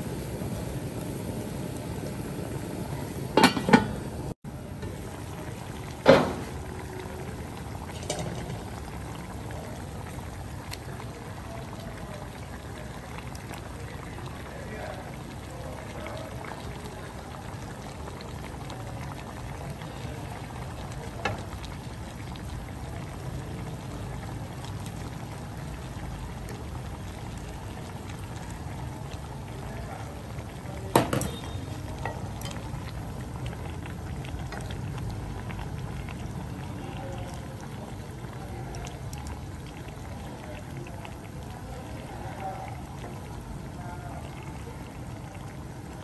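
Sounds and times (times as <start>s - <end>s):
soup bubbling in wok: 0.0s - 46.0s.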